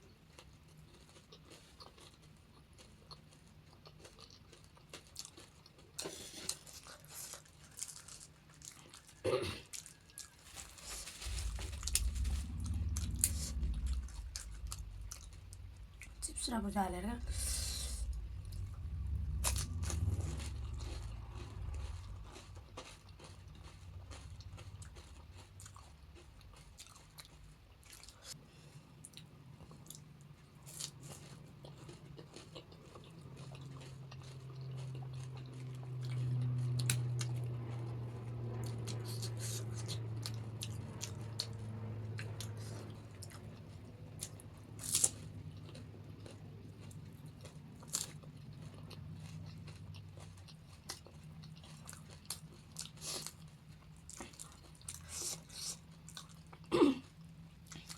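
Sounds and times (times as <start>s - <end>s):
crunching and chewing food: 0.0s - 57.9s
low steady hum: 0.0s - 57.9s.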